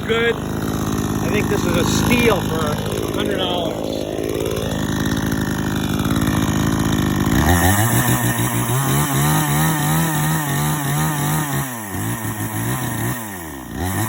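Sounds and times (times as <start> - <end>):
chainsaw running: 0.0 - 14.0.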